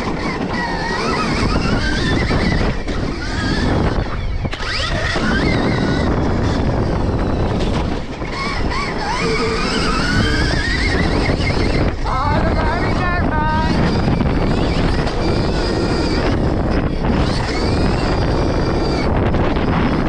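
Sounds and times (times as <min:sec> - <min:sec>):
electric motorbike motor whining: 0:00.0 - 0:20.0
wind rush and rumble: 0:00.0 - 0:20.0.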